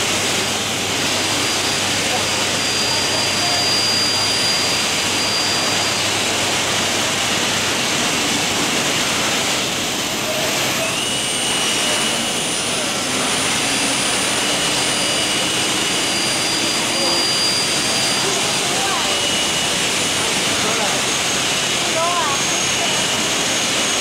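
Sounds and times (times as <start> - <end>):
drilling machine running: 0.0 - 24.0
machinery hall din: 0.0 - 24.0
spindle whine: 0.0 - 24.0.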